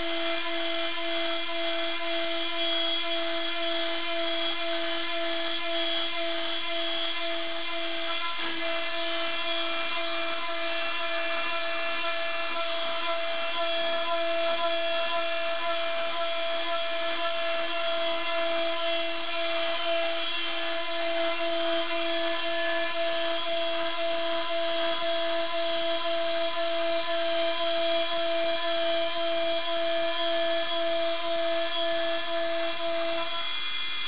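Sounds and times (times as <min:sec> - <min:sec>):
hiss of cutting: 0:00.0 - 0:27.0, 0:30.3 - 0:34.0
router spindle high-pitched whine: 0:00.0 - 0:34.0.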